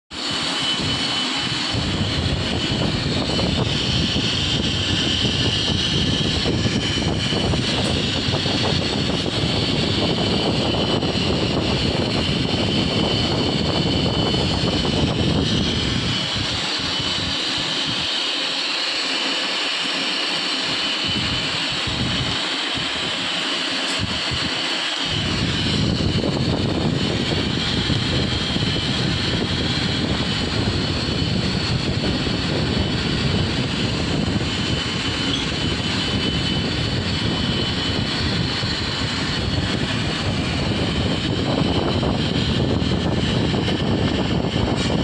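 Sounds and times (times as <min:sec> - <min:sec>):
lathe running: 0:00.1 - 0:45.0
heavy low rumble: 0:00.6 - 0:18.1, 0:20.8 - 0:23.1, 0:24.0 - 0:45.0.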